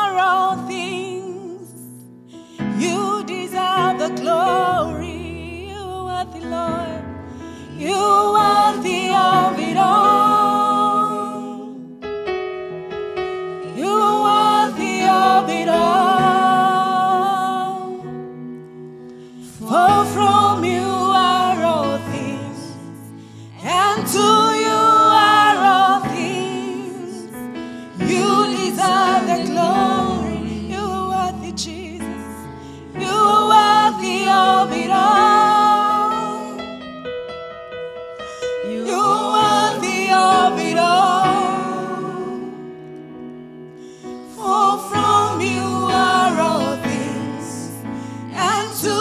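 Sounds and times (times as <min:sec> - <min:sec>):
gospel worship singing: 0:00.0 - 0:37.2, 0:38.1 - 0:49.0
held keyboard chords: 0:02.1 - 0:49.0.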